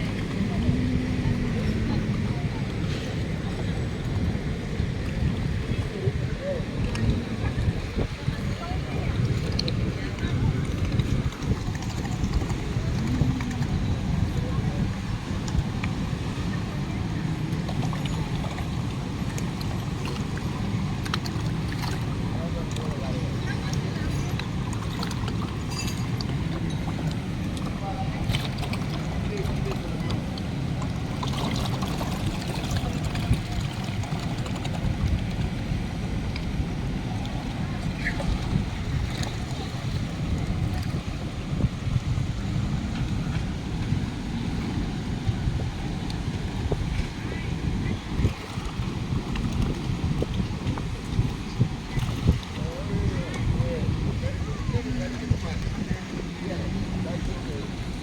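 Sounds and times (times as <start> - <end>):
boat engine rumble: 0.0 - 58.0
water splashes: 0.0 - 58.0
wind buffeting microphone: 0.0 - 58.0.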